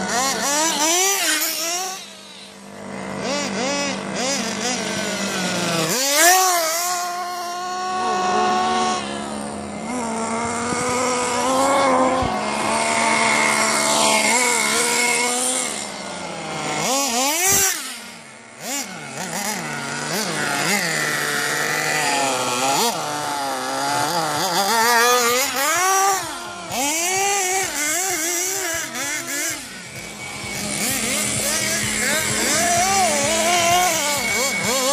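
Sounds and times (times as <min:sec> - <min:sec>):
toy buggy motor revving: 0:00.0 - 0:34.9.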